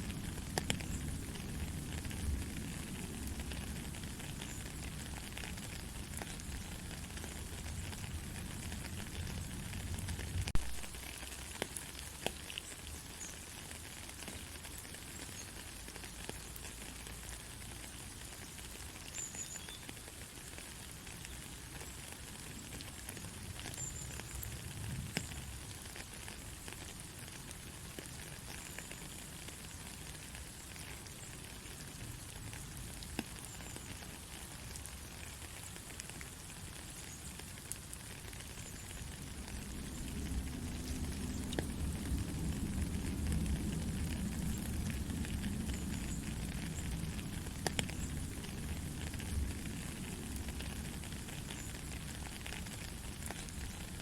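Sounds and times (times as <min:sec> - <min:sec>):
soft rain pattering: 0:00.0 - 0:54.0.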